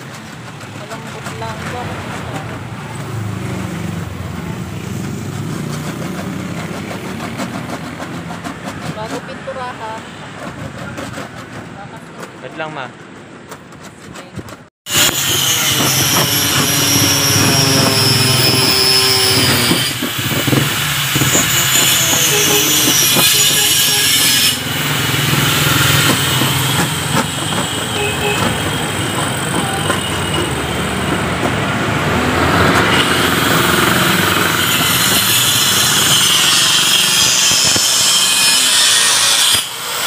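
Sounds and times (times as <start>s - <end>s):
paint scraper scraping steel: 0.0s - 40.0s.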